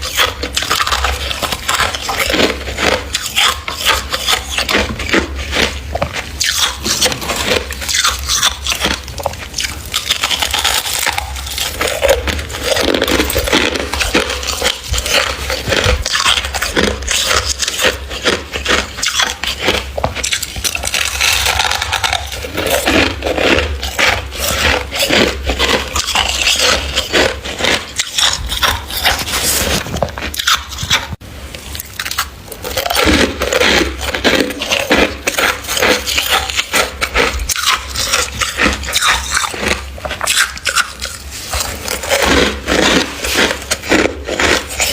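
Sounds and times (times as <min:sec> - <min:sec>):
crunchy chewing: 0:00.0 - 0:44.9
frost being scraped: 0:00.0 - 0:44.9.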